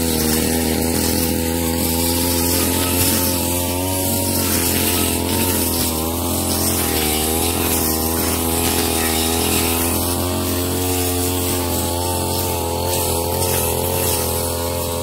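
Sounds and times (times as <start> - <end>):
brush cutter engine at high revs: 0.0 - 15.0.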